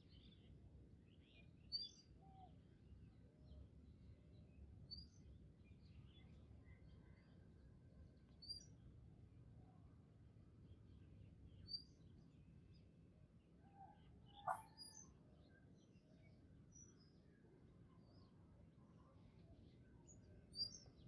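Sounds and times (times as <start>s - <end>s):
faint birds chirping: 0.0s - 21.0s
low steady background rumble: 0.0s - 21.0s.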